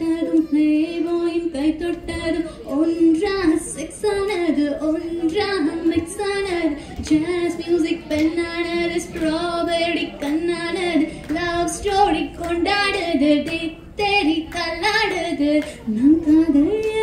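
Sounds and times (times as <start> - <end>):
woman singing into a microphone: 0.0 - 17.0.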